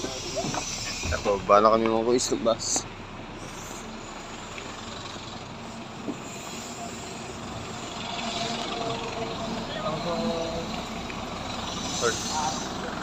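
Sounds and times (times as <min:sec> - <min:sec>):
large vehicle engine rumbling: 0:00.0 - 0:13.0.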